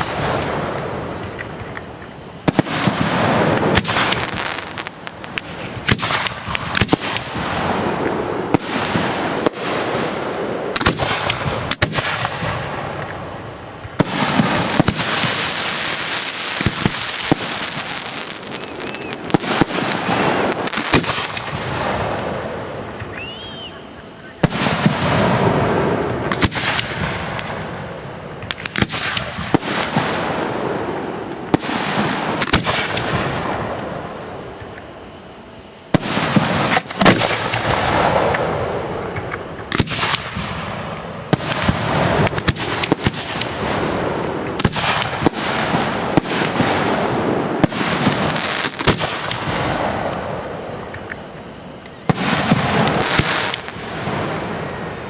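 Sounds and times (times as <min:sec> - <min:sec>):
firework shells bursting: 0:00.0 - 0:23.7, 0:24.4 - 0:34.9, 0:35.9 - 0:51.2, 0:52.0 - 0:54.6.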